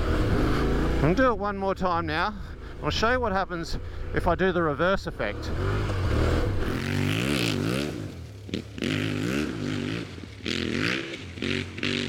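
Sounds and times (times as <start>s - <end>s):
motorcycle engine revving: 0.0s - 12.0s
tyres on gravel: 0.7s - 11.8s.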